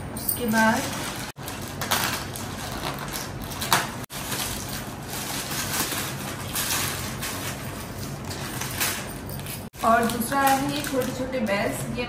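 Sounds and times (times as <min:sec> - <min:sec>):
plastic packaging crinkling: 0:00.6 - 0:11.8.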